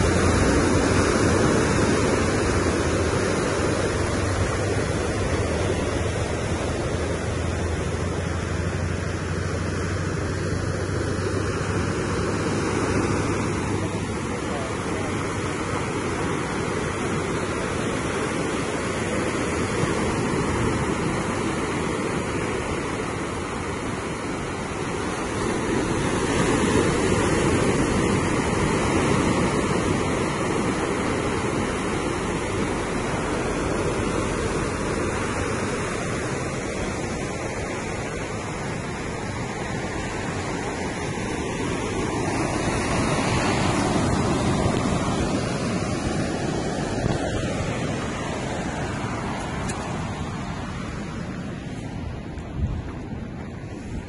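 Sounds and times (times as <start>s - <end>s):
sea waves washing ashore: 0.0s - 54.0s
wind on microphone: 0.0s - 54.0s.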